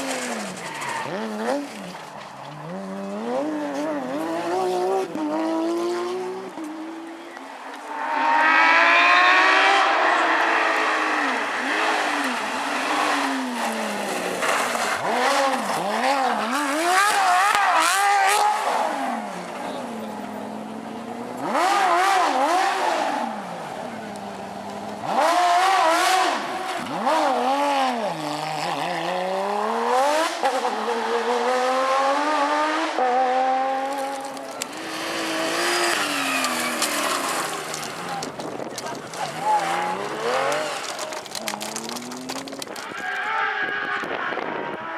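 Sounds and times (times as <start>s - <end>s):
rally car engine revving: 0.0s - 44.9s.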